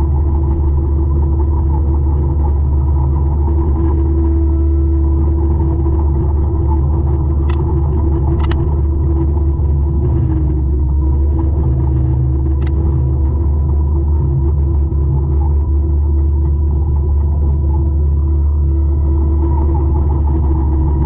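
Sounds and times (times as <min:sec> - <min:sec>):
forestry mulcher engine rumbling: 0:00.0 - 0:21.0.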